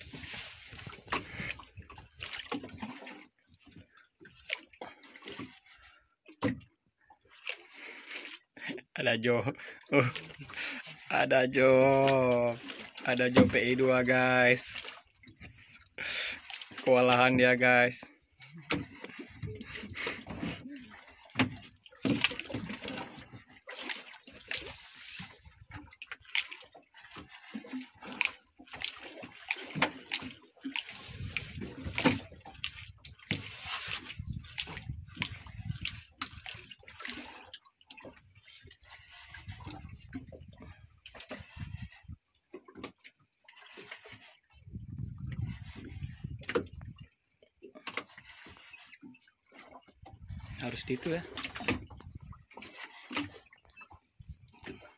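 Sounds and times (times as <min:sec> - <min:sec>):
water splashing against boat hull: 0:00.0 - 0:54.9.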